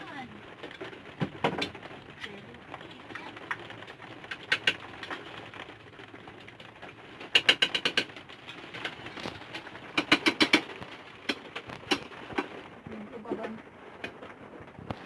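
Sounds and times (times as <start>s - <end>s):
rapid mechanical clicks: 0.5s - 12.8s.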